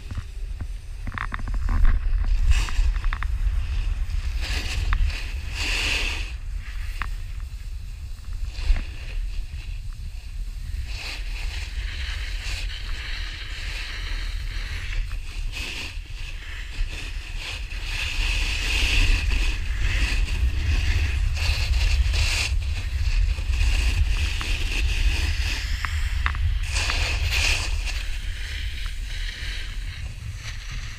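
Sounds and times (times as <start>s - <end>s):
snowboard sliding through snow: 0.0s - 30.9s
wind rushing over microphone: 0.0s - 30.9s.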